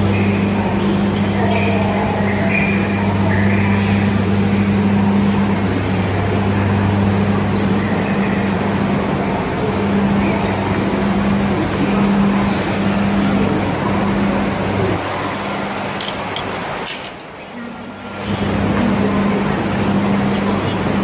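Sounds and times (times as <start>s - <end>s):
ferry engines droning: 0.0s - 21.0s.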